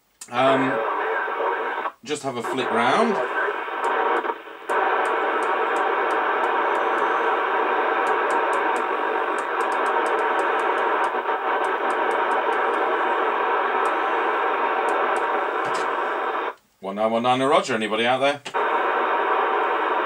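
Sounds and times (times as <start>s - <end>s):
radio receiver hiss: 0.2s - 16.6s, 18.1s - 20.0s.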